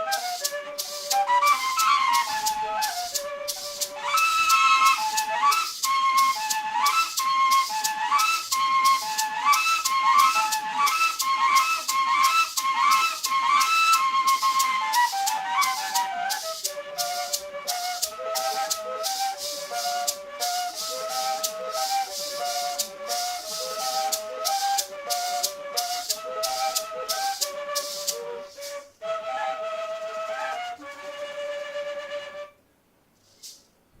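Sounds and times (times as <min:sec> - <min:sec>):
maraca shakes: 0:00.0 - 0:32.4, 0:33.2 - 0:33.9
flute melody: 0:00.0 - 0:32.6.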